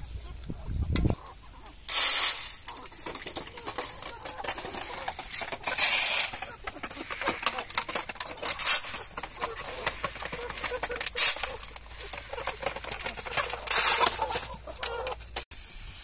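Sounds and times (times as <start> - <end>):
chickens pecking on metal tray: 0.1 - 15.4.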